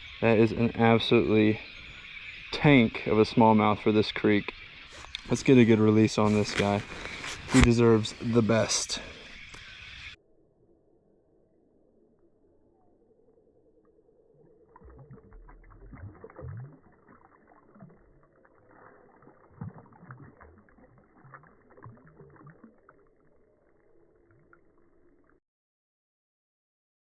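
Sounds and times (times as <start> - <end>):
muffled water splashing: 0.2 - 10.2, 12.6 - 25.4.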